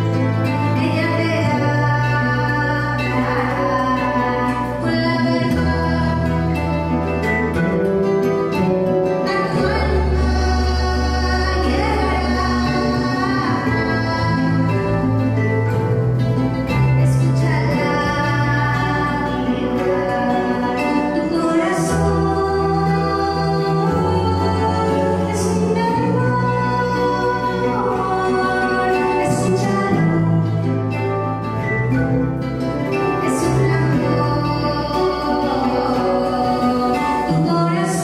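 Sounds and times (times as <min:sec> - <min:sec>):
woman singing: 0:00.0 - 0:31.7, 0:32.4 - 0:38.0
strummed small guitars: 0:00.0 - 0:38.0.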